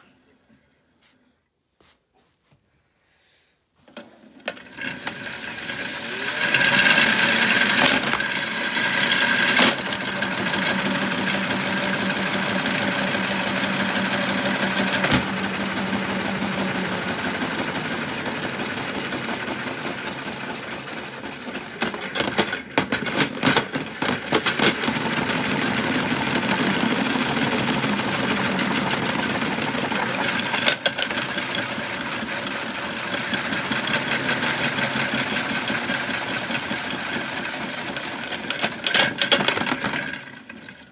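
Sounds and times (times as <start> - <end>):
toy washing machine motor whirring: 3.9 - 40.9.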